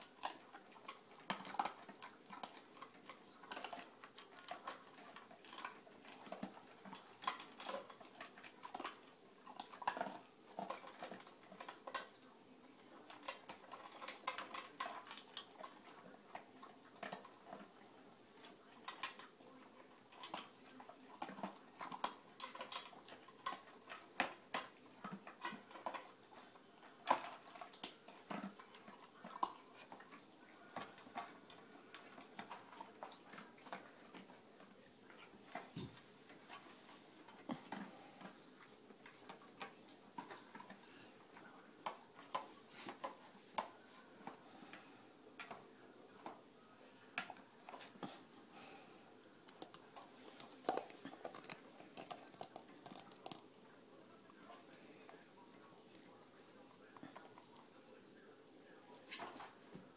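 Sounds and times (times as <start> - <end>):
dogs crunching food: 0.0 - 59.9.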